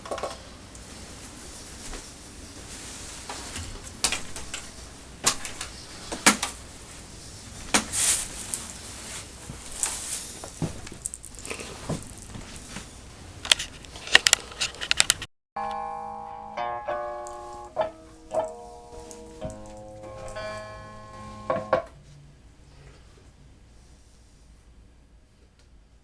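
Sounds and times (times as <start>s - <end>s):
faint rustling hiss: 0.1s - 15.1s, 16.9s - 26.0s.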